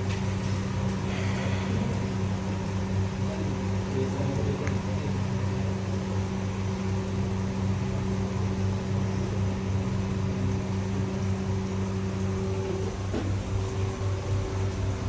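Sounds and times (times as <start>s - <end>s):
low hum of kitchen equipment: 0.0s - 15.0s.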